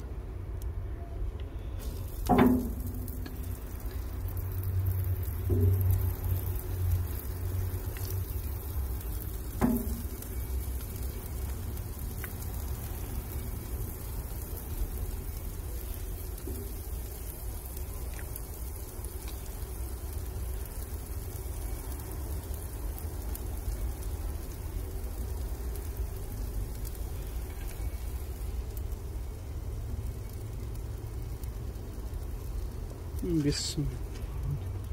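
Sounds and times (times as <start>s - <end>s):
chicken sizzling on grill: 1.6s - 34.9s.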